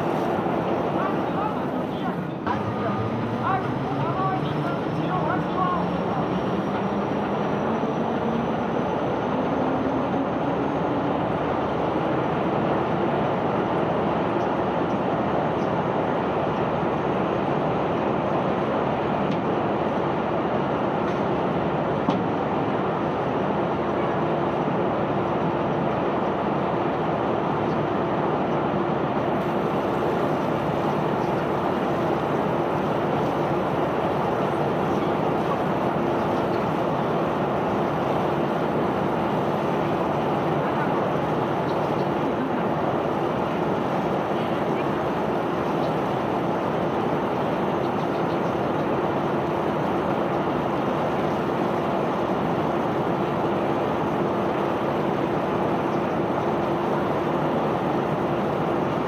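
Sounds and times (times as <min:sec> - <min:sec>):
unloading machinery running: 0:00.0 - 0:59.0.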